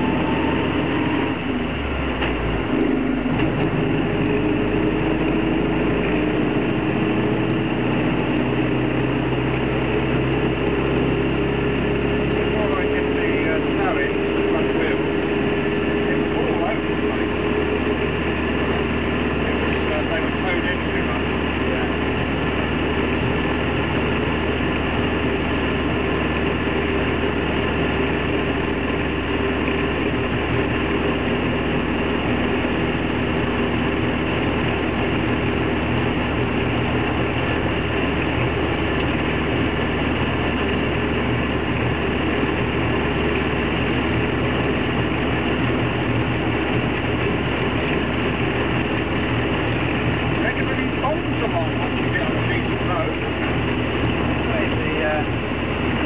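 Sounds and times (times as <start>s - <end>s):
car engine running: 0.0s - 56.0s
mechanical and road noise: 0.0s - 56.0s.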